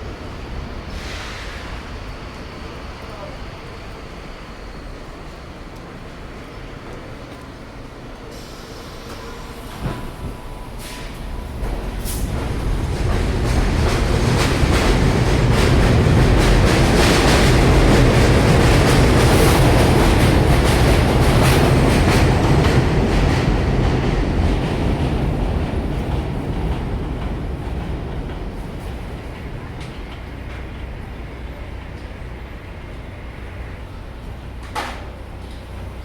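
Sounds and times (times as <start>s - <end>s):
subway train wheels clacking: 0.0s - 36.0s.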